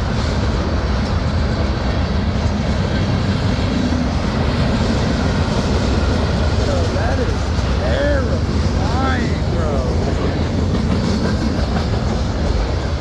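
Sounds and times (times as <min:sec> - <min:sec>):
freight train passing: 0:00.0 - 0:13.0.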